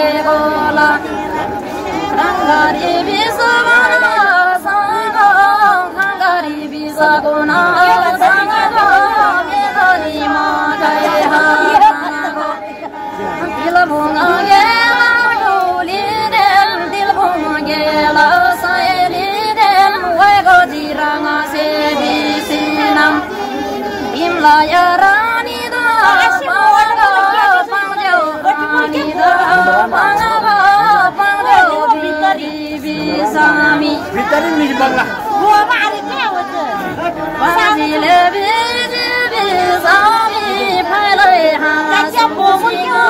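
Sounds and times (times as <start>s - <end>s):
women singing folk song: 0.0s - 43.0s.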